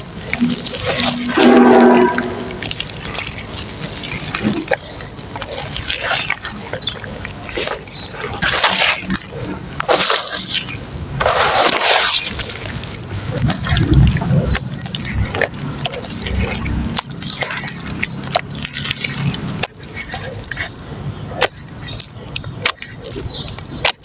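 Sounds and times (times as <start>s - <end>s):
splashing: 0.0s - 24.0s
wet mud squelching and sloshing: 0.0s - 24.0s.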